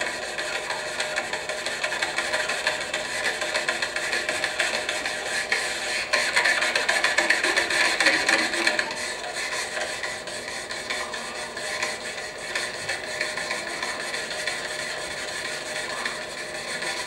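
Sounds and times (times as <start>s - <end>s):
hands rubbing latex balloon: 0.0s - 17.0s.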